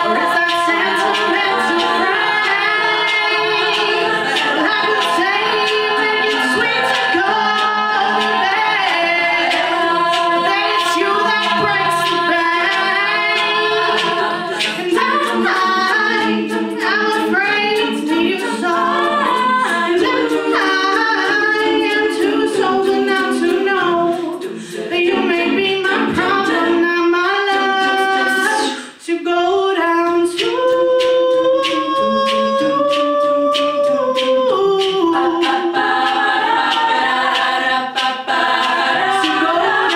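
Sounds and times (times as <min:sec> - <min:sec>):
sharp clicks keeping beat: 0:00.0 - 0:28.1, 0:30.3 - 0:39.9
women singing in harmony: 0:00.0 - 0:29.1, 0:29.7 - 0:39.9.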